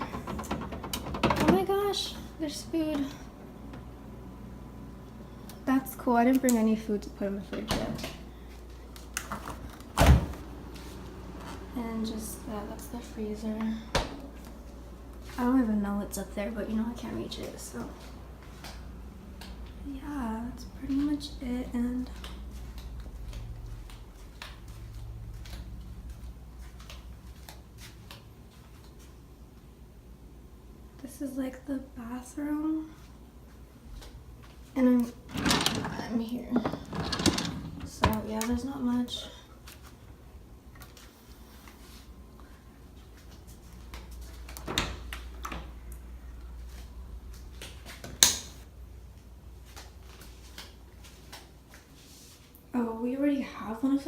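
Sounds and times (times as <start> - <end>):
low room hum: 0.0 - 54.0.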